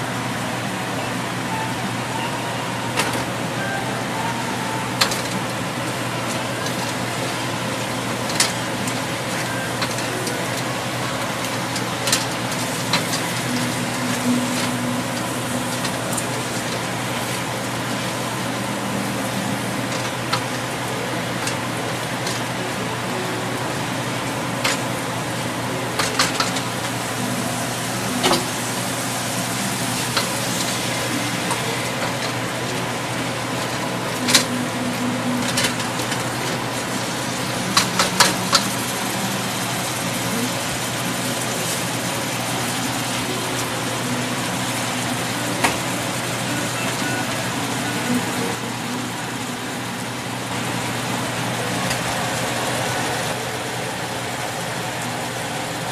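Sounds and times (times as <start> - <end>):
seafood sizzling in oil: 2.0 - 55.9.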